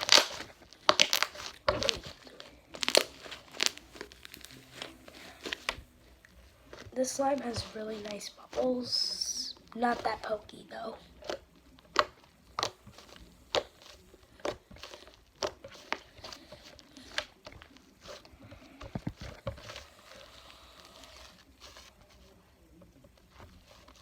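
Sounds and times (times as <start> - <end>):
slime squishing: 0.0 - 24.0
soft crinkling: 0.0 - 24.0.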